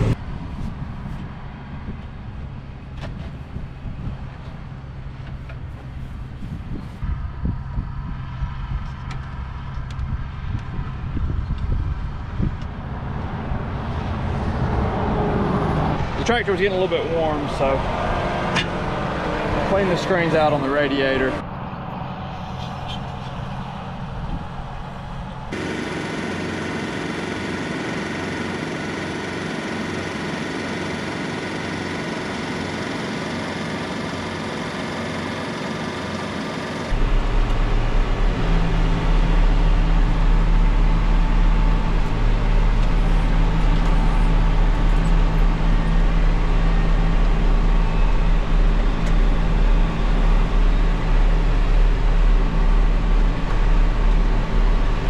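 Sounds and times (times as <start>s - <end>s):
tractor engine drone: 0.0s - 55.0s.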